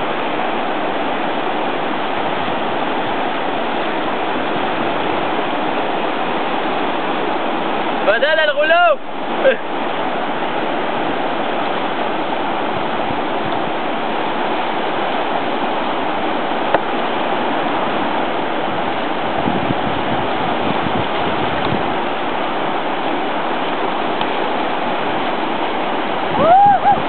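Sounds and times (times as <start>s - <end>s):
river rapids rushing: 0.0s - 27.0s.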